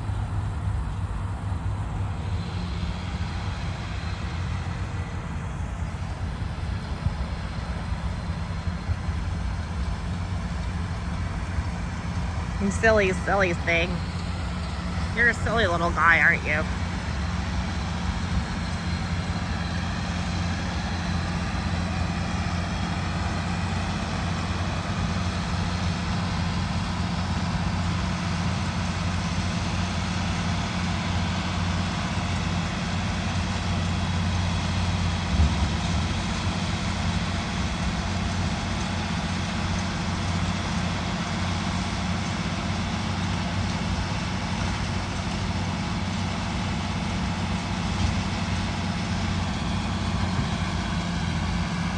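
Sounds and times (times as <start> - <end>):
vehicle engine idling: 0.0 - 51.9.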